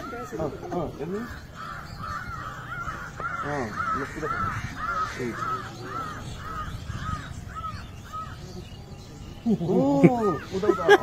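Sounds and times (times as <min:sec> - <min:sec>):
bird calling: 0:00.0 - 0:11.0
low voices murmuring: 0:00.0 - 0:11.0.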